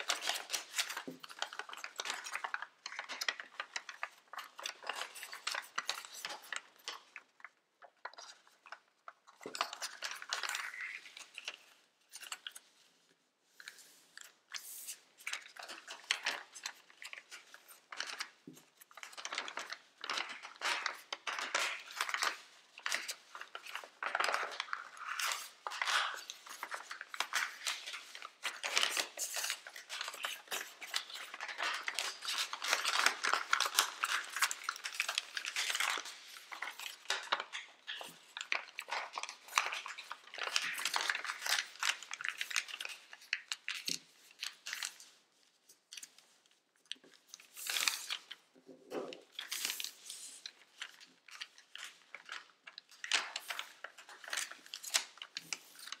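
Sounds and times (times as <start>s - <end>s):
paper rustling and crinkling: 0.0s - 56.0s.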